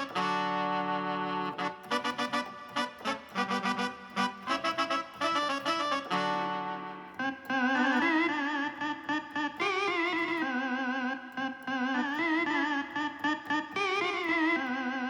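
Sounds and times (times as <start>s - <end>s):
keyboard guitar-like lead melody: 0.0s - 15.0s.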